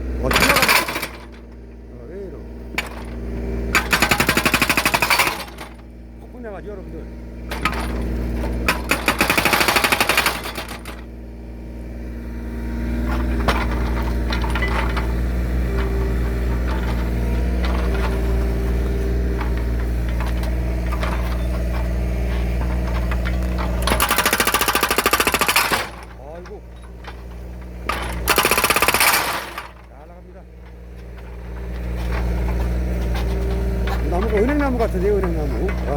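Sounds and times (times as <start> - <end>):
diesel engine running: 0.0 - 35.9
hydraulic breaker hammering logs: 0.0 - 35.9.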